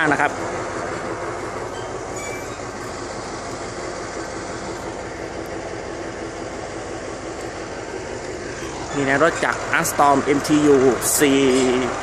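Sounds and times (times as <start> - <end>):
locomotive diesel engine idling: 0.0 - 12.0.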